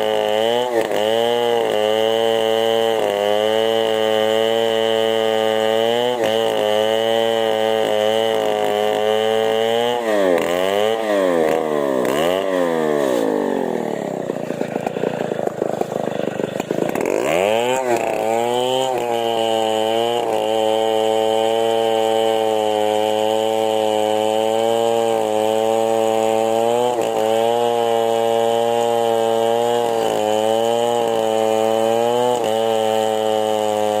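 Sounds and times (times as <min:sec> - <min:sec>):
chainsaw engine revving: 0:00.0 - 0:34.0.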